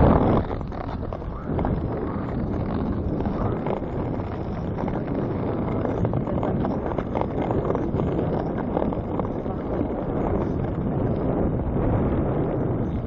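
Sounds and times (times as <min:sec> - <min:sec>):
ice skates scraping ice: 0:00.0 - 0:11.4
wind buffeting microphone: 0:00.0 - 0:13.0.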